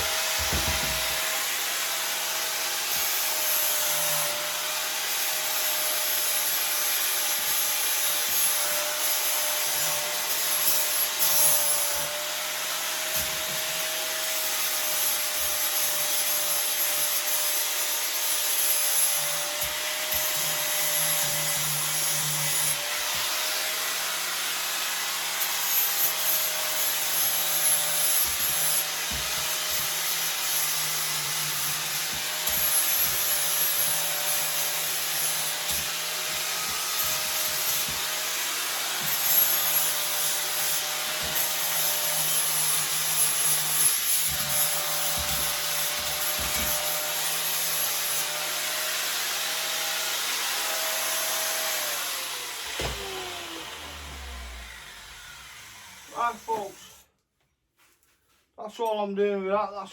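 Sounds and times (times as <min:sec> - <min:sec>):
grinder whining: 0:00.0 - 0:57.2.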